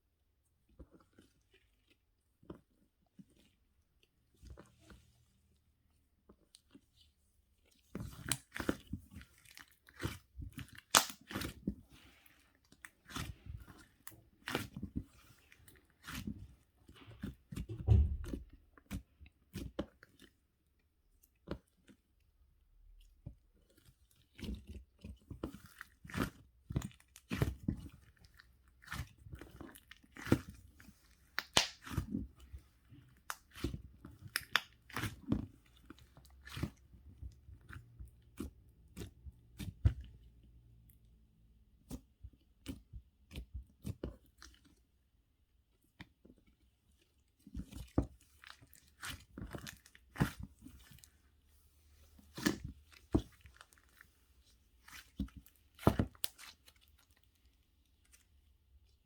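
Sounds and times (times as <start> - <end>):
person chewing and crunching food: 0.6 - 5.4, 6.2 - 41.2, 41.8 - 44.9, 45.7 - 59.0.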